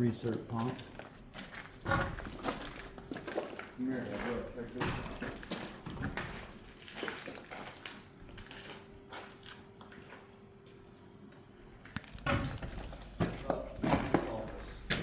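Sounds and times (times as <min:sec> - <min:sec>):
footsteps and scuffing: 0:00.0 - 0:10.4, 0:11.7 - 0:15.0.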